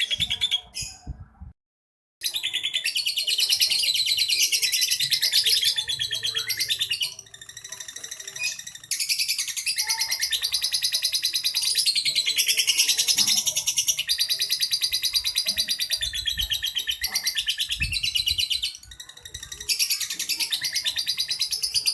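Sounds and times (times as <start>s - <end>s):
lovebird chattering song: 2.2s - 21.9s.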